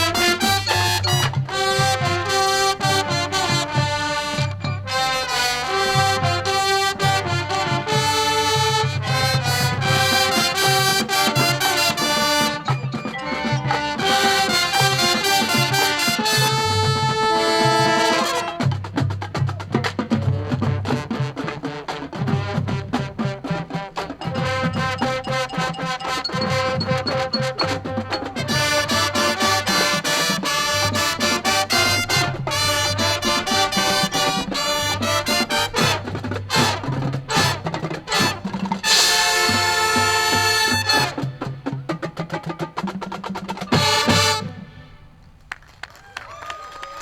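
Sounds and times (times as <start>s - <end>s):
marching band brass chords: 0.0s - 47.0s
marching band drums: 0.0s - 47.0s.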